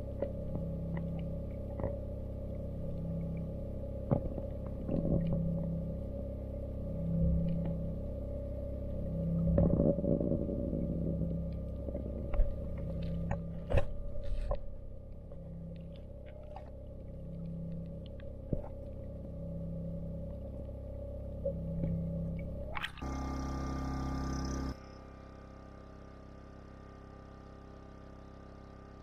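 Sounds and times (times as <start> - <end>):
low tone switching on and off: 0.0 - 25.6
low mechanical hum underwater: 0.0 - 29.0.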